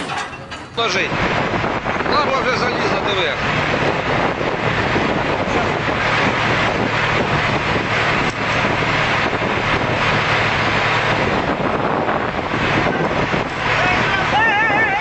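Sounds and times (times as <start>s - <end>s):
diesel engine running: 0.0s - 15.0s
wind noise on microphone: 0.0s - 15.0s.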